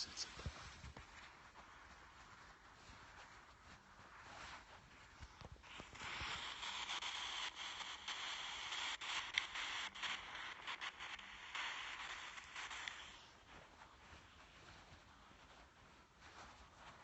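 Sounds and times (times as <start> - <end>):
static hiss: 0.0 - 17.0.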